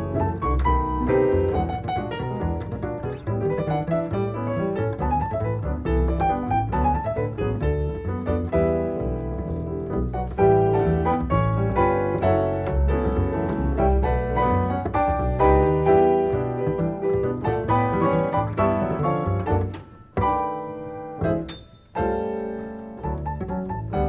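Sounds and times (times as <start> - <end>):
double bass notes: 0.0 - 24.0
jazz piano: 0.0 - 24.0.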